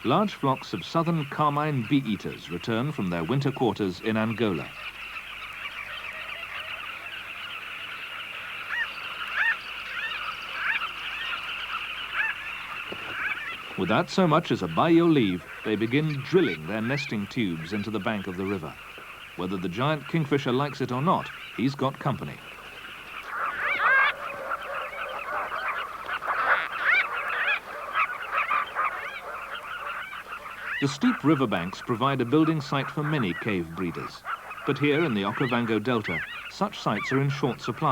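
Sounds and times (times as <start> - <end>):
flock of birds chattering: 0.0 - 37.9
single clear bird calls: 1.0 - 37.9.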